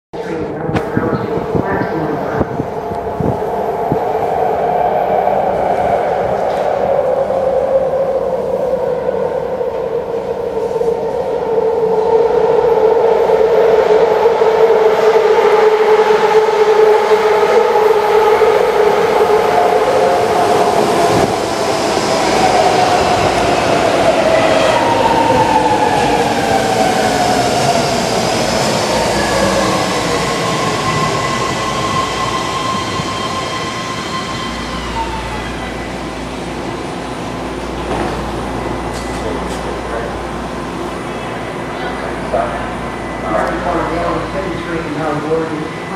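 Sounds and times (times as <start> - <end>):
train rushing past: 0.2 - 45.9.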